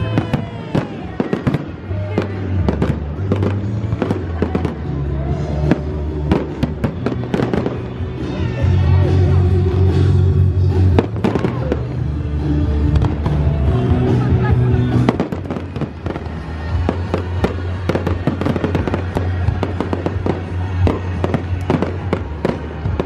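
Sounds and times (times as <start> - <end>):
fireworks bangs and crackles: 0.0 - 23.0
music with low bass line: 0.0 - 23.0.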